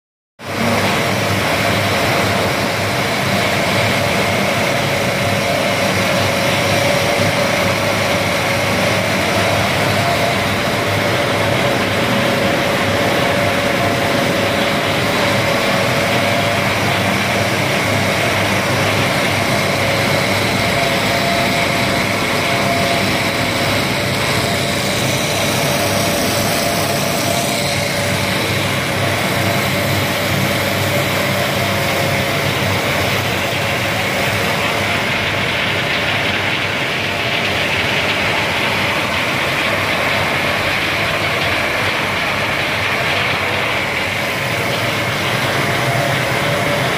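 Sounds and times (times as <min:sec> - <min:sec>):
production line machinery drone: 0:00.4 - 0:46.9.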